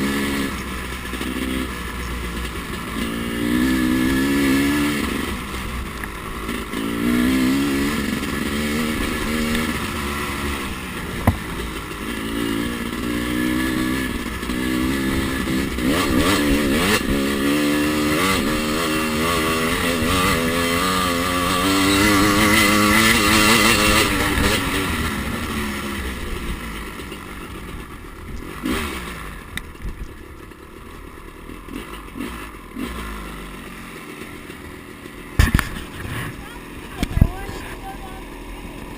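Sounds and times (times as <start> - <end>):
dirt bike engine revving: 0.0 - 30.5, 31.1 - 38.9.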